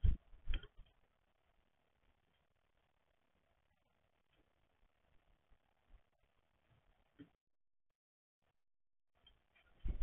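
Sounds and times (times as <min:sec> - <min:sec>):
faint microphone hiss: 0:00.0 - 0:10.0.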